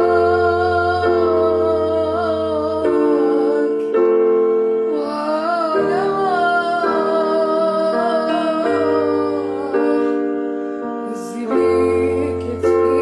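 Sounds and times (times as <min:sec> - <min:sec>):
piano chords: 0:00.0 - 0:13.0
woman singing: 0:00.0 - 0:13.0.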